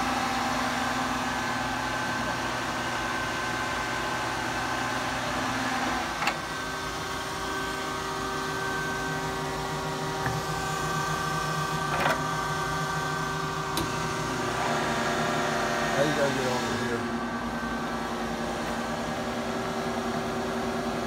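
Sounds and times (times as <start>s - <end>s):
milling machine humming and whining: 0.0s - 21.0s.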